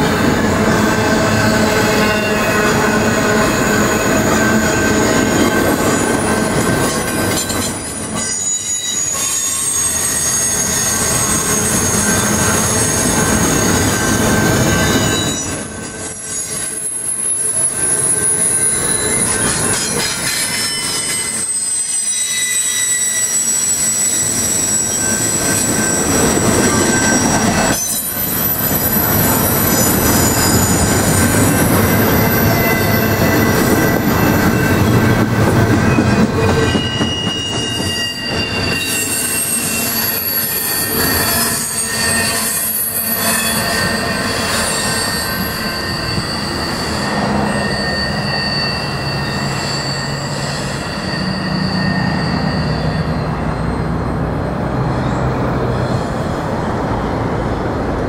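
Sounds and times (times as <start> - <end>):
high-pitched wheel squeal: 0.0 - 56.4
train cars rolling on steel wheels: 0.0 - 58.0.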